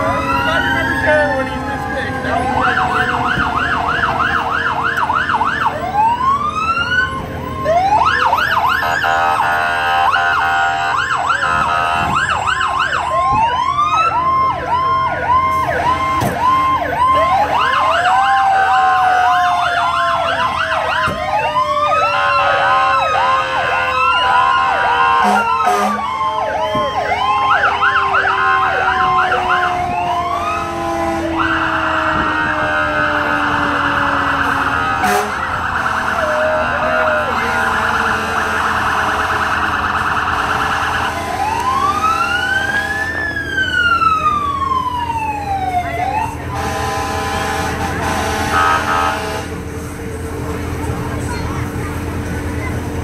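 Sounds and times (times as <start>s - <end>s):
fire truck sirens: 0.0s - 53.0s.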